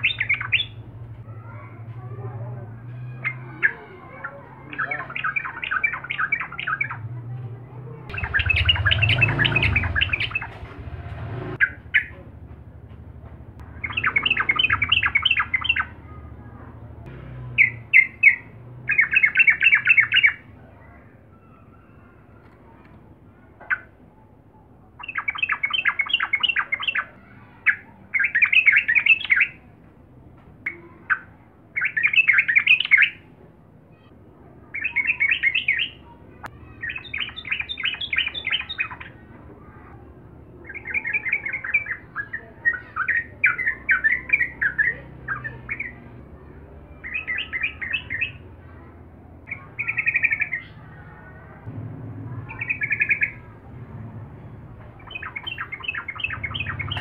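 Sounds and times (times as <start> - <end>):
bird chattering song: 0.0 - 7.4, 8.0 - 12.3, 13.6 - 29.7, 30.7 - 33.3, 34.7 - 51.6, 52.2 - 53.6, 54.9 - 57.0.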